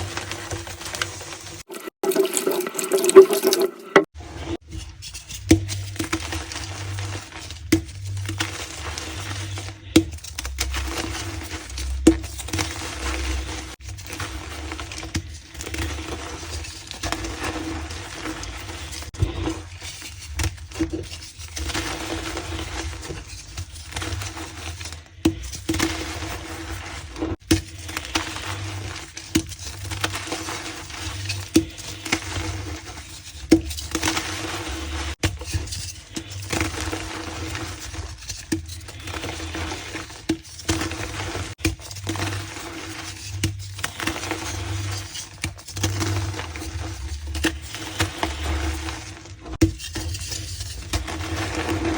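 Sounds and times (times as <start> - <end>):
chalk crunching and squeaking: 4.6 - 51.9.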